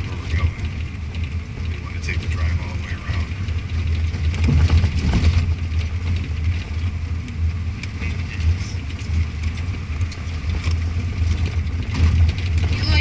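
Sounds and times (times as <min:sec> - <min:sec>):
light clicks and rattles: 0:00.0 - 0:13.0
vehicle engine humming: 0:00.0 - 0:13.0.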